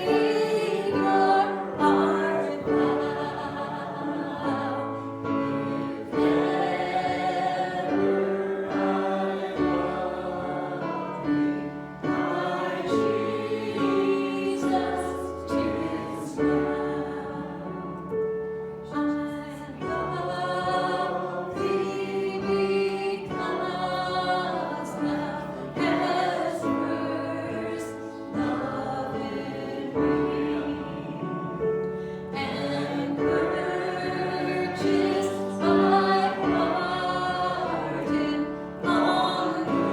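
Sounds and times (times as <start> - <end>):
group singing a slow hymn: 0.0 - 39.9.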